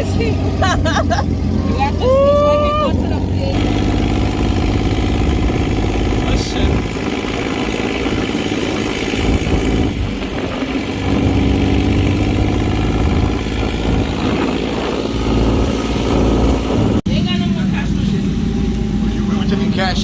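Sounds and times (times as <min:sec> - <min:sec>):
dune buggy engine running: 0:00.0 - 0:20.0
road and wind noise: 0:00.0 - 0:20.0.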